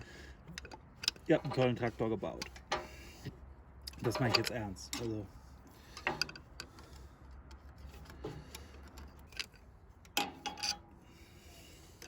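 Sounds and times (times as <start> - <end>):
hand tools on metal hose clamp: 0.4 - 12.0.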